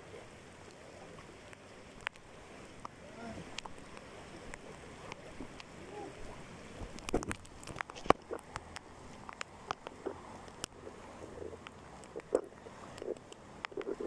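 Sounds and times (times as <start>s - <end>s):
water sloshing around legs: 0.8s - 14.0s.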